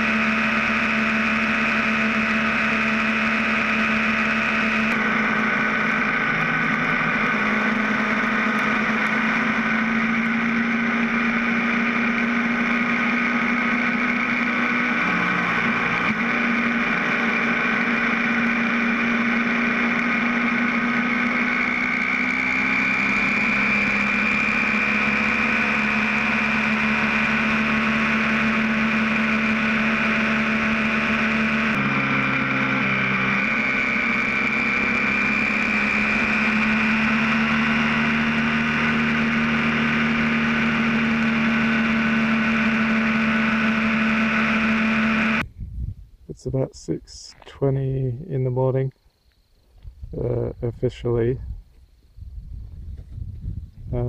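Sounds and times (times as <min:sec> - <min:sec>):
motorcycle engine cruising: 0:00.0 - 0:45.7
wind and road noise: 0:00.0 - 0:54.0.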